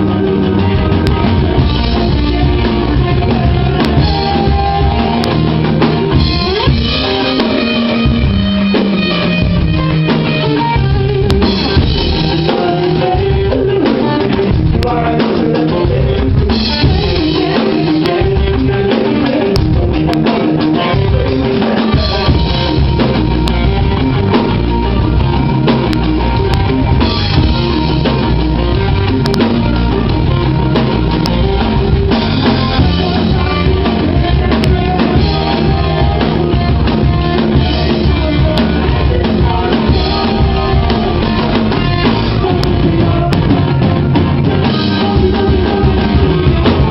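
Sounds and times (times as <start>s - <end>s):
drum kit: 0.0s - 46.9s
rock band playing loudly: 0.0s - 46.9s.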